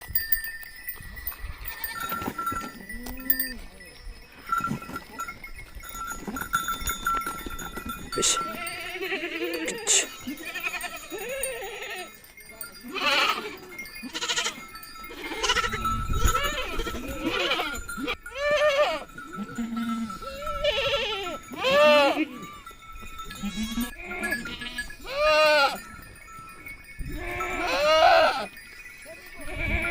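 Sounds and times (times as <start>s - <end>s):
neck bells ringing: 0.0s - 29.9s
sheep and goats bleating: 1.2s - 29.9s.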